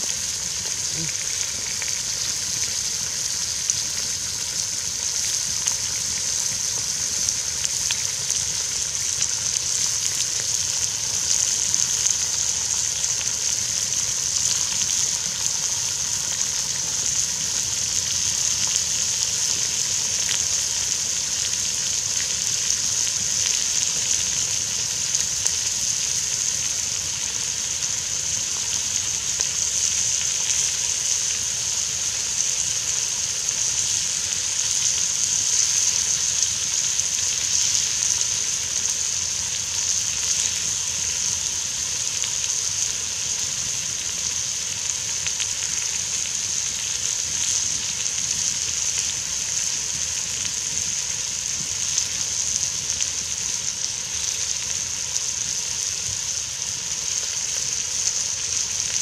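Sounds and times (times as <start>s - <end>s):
bacon sizzling: 0.0s - 59.0s
campfire crackling: 0.0s - 59.0s.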